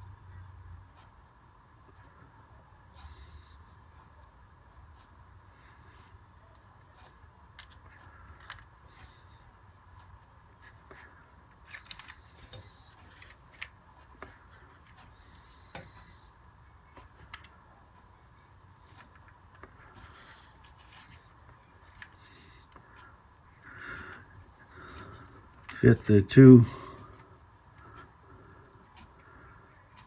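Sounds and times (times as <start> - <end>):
faint hum: 0.0 - 30.0.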